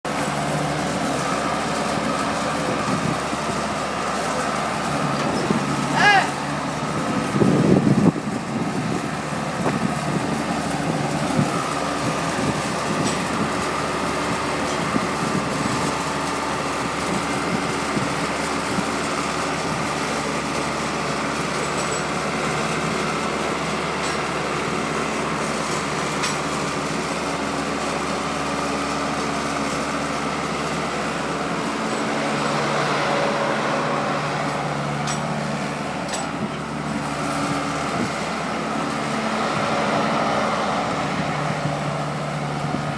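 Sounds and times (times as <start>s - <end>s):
loader engine running: 0.0s - 42.9s.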